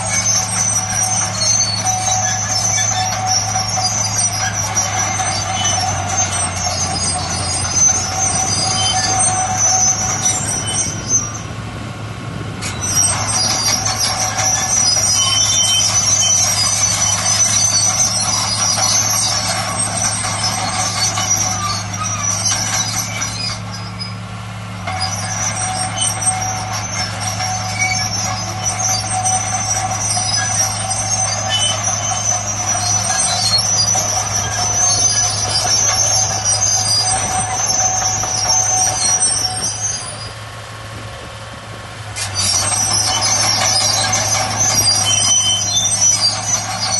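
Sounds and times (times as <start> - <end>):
bulldozer diesel engine droning: 0.0 - 46.9
metallic squealing of crawler tracks: 0.0 - 46.9.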